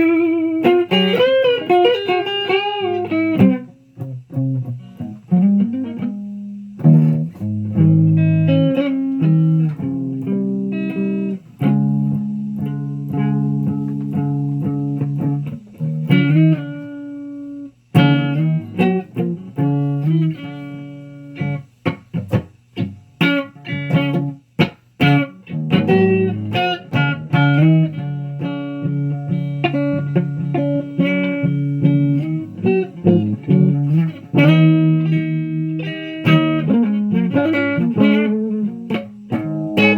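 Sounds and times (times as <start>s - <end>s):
electric guitar chords and notes: 0.0s - 39.9s
muted guitar strums: 0.0s - 39.9s.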